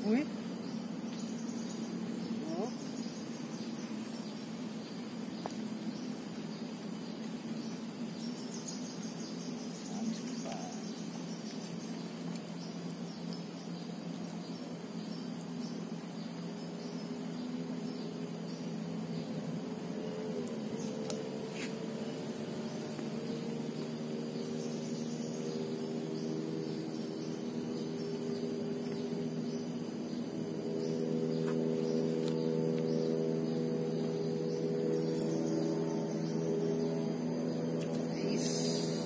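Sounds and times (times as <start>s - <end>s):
insects trilling: 0.0s - 39.0s
low steady hum: 0.0s - 39.0s.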